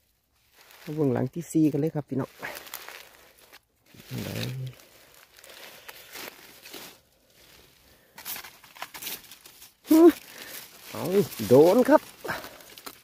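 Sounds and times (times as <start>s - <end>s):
dry leaves rustling and crackling: 0.0s - 13.0s.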